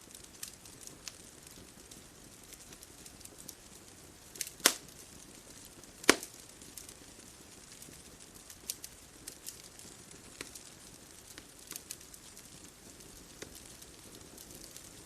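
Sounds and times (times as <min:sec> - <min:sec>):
bonfire crackling: 0:00.0 - 0:15.0
soft steady hiss: 0:00.0 - 0:15.0
loud pops of fire: 0:00.1 - 0:15.0.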